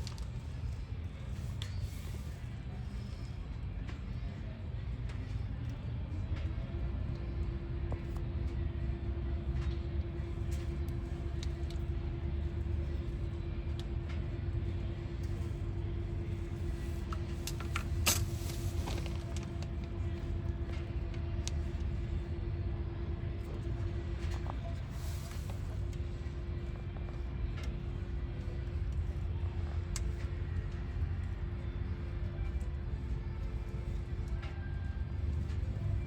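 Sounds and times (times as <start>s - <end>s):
motor rumbling and humming: 0.0s - 36.0s.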